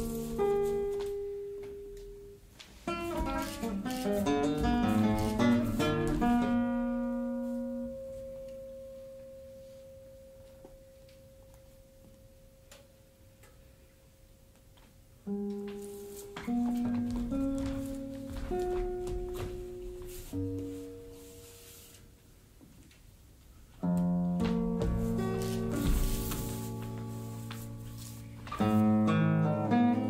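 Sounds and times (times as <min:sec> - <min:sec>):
classical guitar playing: 0:00.0 - 0:11.1, 0:15.2 - 0:22.0, 0:23.8 - 0:30.0.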